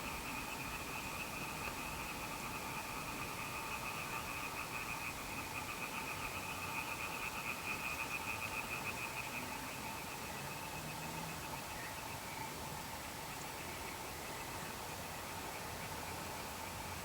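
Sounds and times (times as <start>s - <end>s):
frogs trilling: 0.0s - 17.0s.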